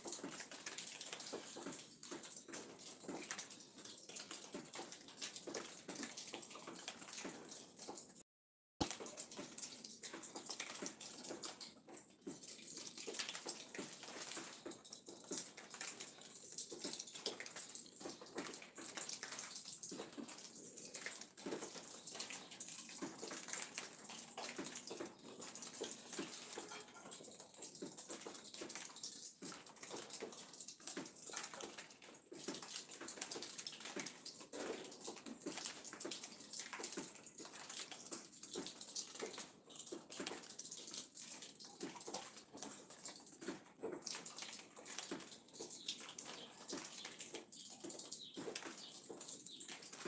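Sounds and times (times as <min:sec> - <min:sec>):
light rain pattering on leaves: 0:00.0 - 0:08.2, 0:08.8 - 0:50.0.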